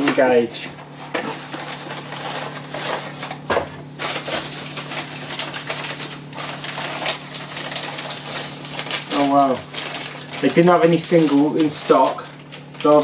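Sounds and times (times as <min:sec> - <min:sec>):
packaging rustling and crinkling: 0:00.1 - 0:13.0.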